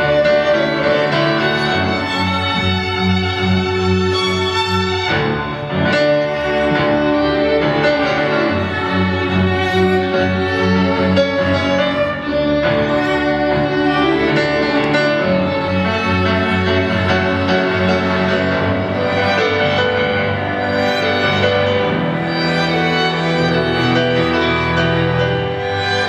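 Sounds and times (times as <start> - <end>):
bowed strings: 0.0 - 26.0
grand piano playing: 0.0 - 26.0.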